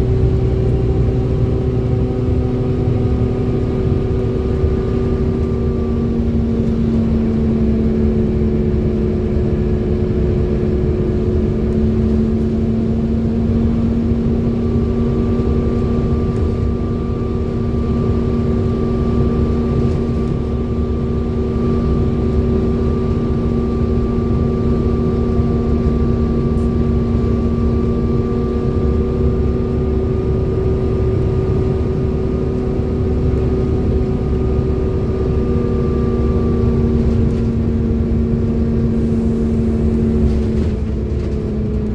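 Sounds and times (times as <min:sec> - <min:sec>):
bus engine rumbling: 0:00.0 - 0:41.9
vacuum-like engine whine: 0:00.0 - 0:41.9.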